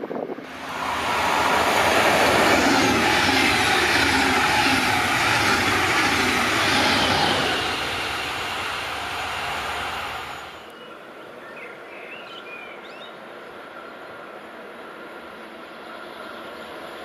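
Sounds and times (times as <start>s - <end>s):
train passing at high speed: 0.0s - 11.1s, 12.9s - 17.0s.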